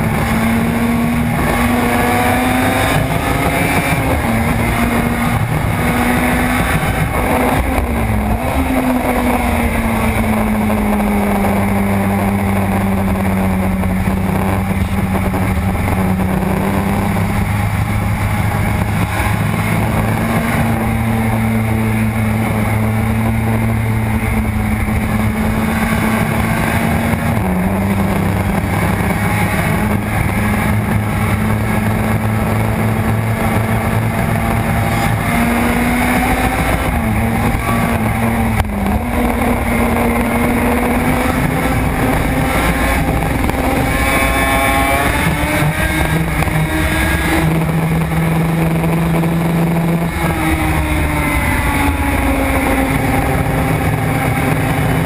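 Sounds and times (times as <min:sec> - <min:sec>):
two-stroke engine running hard: 0:00.0 - 0:55.0
wind rush: 0:00.0 - 0:55.0.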